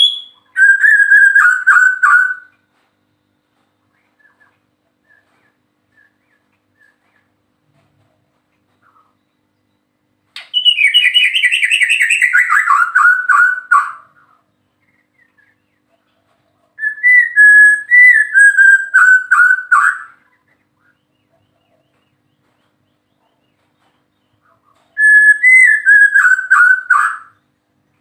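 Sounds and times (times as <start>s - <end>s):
bird singing: 0.0s - 2.6s, 3.8s - 7.9s, 8.5s - 28.0s.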